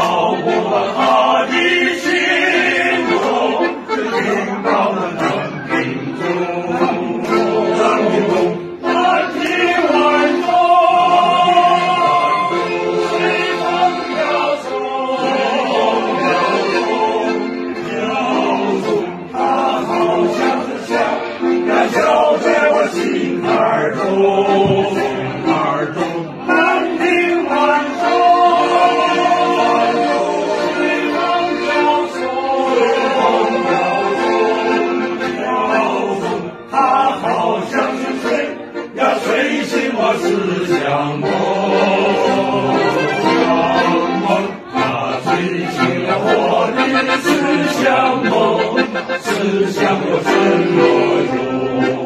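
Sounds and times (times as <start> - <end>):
choir singing sustained notes: 0.0 - 52.0.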